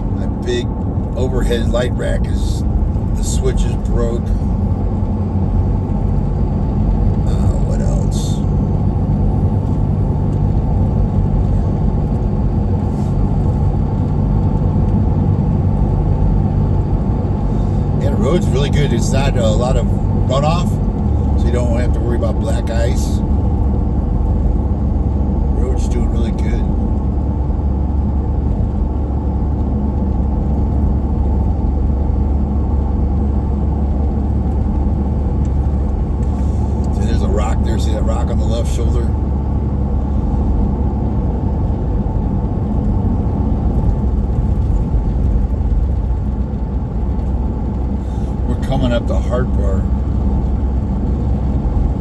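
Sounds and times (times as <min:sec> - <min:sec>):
truck engine and tyre rumble: 0:00.0 - 0:52.0.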